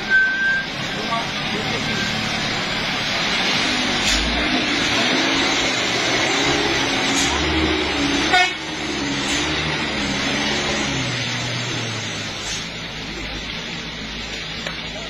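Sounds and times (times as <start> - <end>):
road noise on wet road: 0.0 - 15.0
truck engine droning: 0.0 - 15.0.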